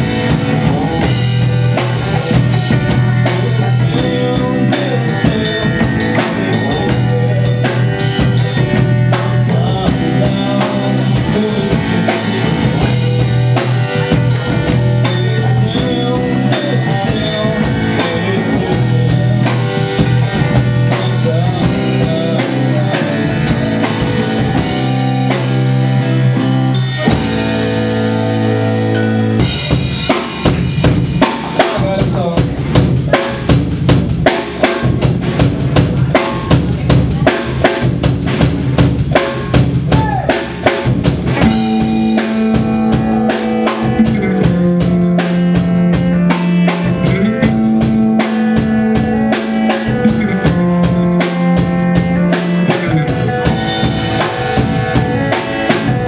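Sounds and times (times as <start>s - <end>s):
bass line: 0.0s - 56.0s
drum kit: 0.0s - 56.0s
live rock band playing: 0.0s - 56.0s.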